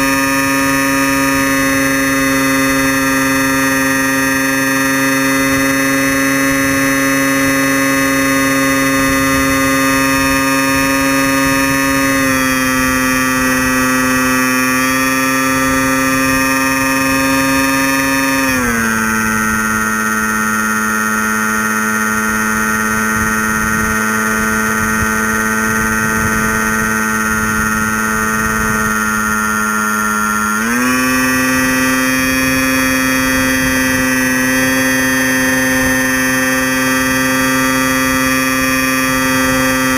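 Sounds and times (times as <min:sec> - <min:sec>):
model plane motor buzzing: 0:00.0 - 0:39.9.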